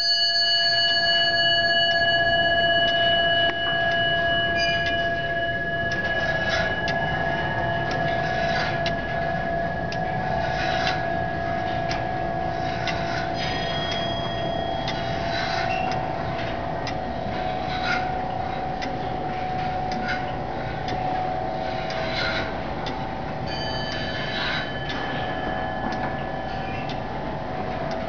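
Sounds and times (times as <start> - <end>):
clock ticking: 0.0 - 28.0
steady hum: 0.0 - 28.0.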